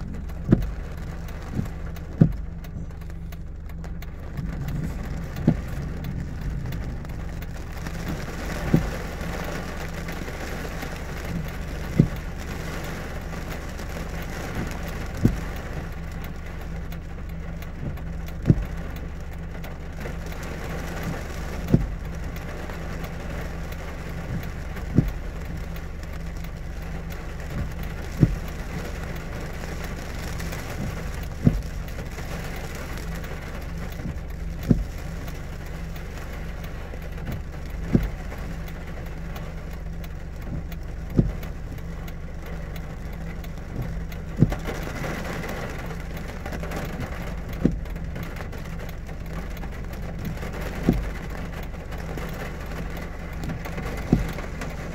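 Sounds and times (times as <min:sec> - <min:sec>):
engine idling low hum: 0:00.0 - 0:54.9
rain on a vehicle: 0:00.0 - 0:54.9.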